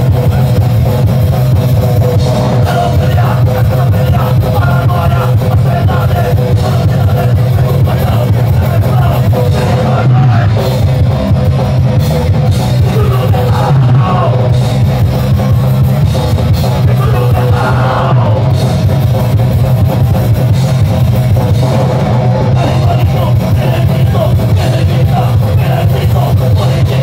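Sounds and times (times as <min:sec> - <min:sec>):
distorted electric guitar: 0:00.0 - 0:27.0
drum kit: 0:00.0 - 0:27.0
live rock band playing loudly: 0:00.0 - 0:27.0.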